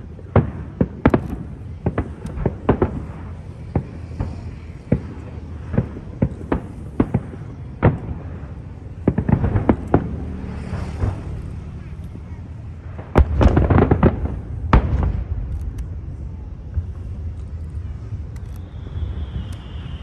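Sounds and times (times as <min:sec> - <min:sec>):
fireworks bursting with sharp bangs: 0:00.0 - 0:20.0
steady low rumble: 0:00.0 - 0:20.0.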